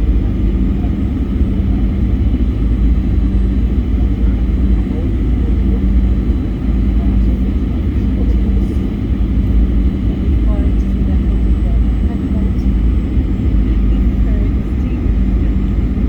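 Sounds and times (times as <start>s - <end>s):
aircraft cabin engine rumble: 0.0s - 16.0s
constant low hum: 0.0s - 16.0s.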